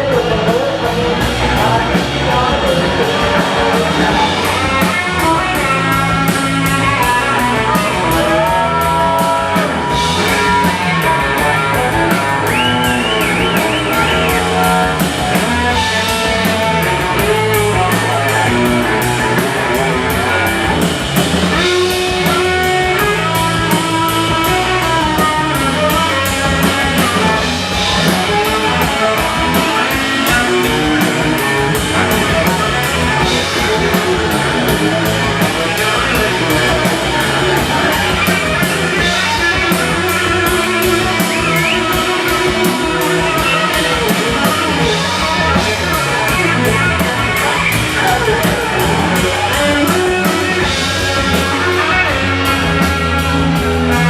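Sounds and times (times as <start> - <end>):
instrumental rock music: 0.0 - 54.0.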